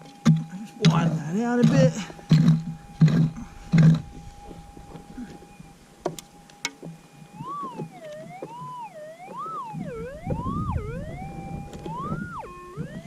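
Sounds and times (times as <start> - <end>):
metal detector tone wavering: 0.9 - 13.0.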